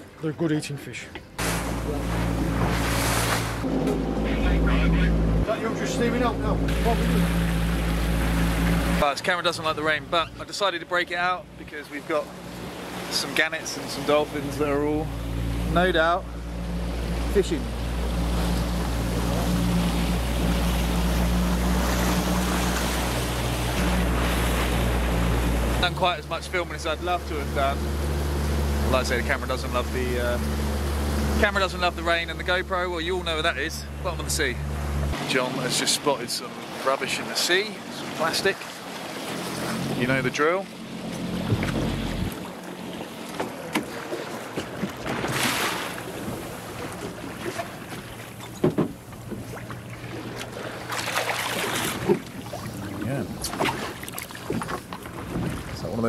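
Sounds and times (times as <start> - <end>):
motorboat engine droning: 0.0 - 56.0
water spraying off hull: 1.4 - 56.0.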